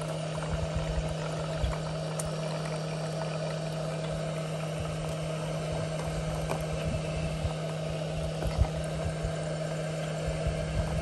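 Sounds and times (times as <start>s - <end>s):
coffee maker water gurgling: 0.0s - 11.0s
low hum: 0.0s - 11.0s.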